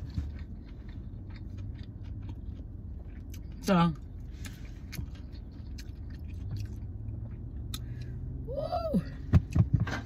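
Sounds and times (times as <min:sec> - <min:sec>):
person chewing with wet mouth sounds: 0:00.0 - 0:08.4.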